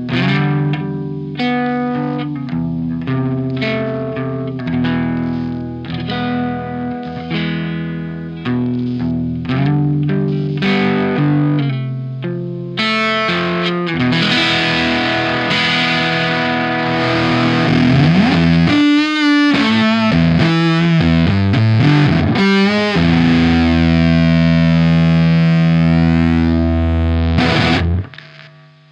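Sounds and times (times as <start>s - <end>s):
fuzzed electric guitar: 0.0s - 28.9s.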